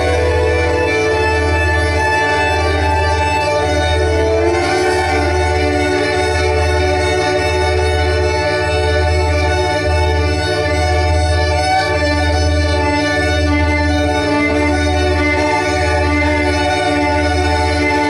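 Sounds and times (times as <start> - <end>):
bowed violin sustained notes: 0.0 - 18.0
pulsing deep bass tone: 0.0 - 18.0.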